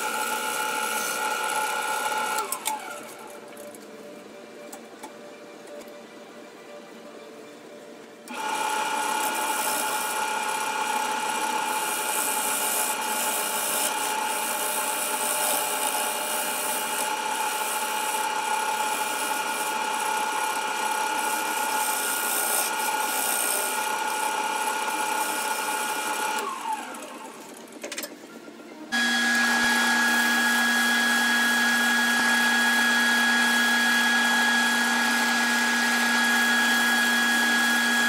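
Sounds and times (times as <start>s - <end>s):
wood lathe motor whine: 0.0s - 3.5s, 8.3s - 27.6s, 28.9s - 38.0s.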